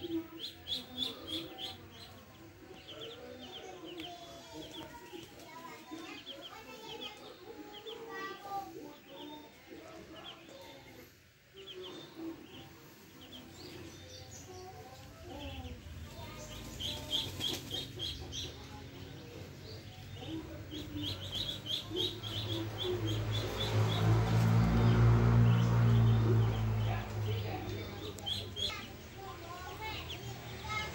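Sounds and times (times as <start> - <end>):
ducklings peeping: 0.0 - 30.9.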